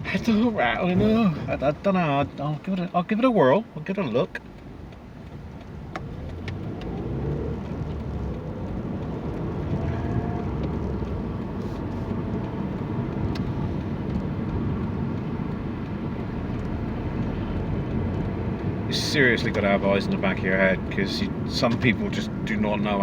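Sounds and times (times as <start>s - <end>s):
vehicle engine and tyre rumble: 0.0s - 23.0s.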